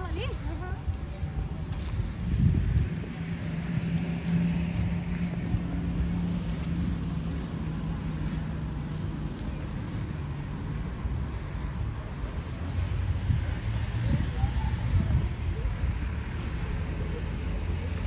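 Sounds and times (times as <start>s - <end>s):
street traffic engine hum: 0.0s - 18.0s.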